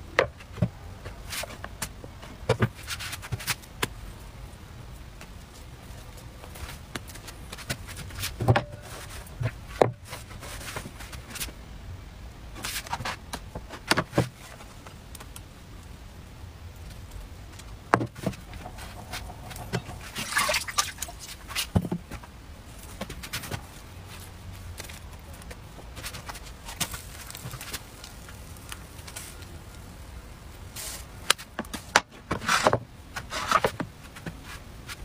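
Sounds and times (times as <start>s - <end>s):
low steady hum: 0.0s - 35.0s
scraping rustle: 0.4s - 3.7s, 5.3s - 11.6s, 12.6s - 14.9s, 16.8s - 29.5s, 30.7s - 35.0s.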